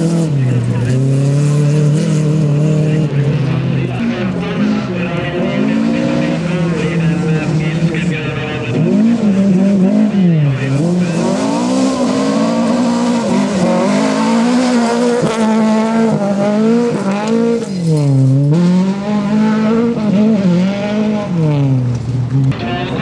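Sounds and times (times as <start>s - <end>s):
car engine revving hard: 0.0s - 22.6s.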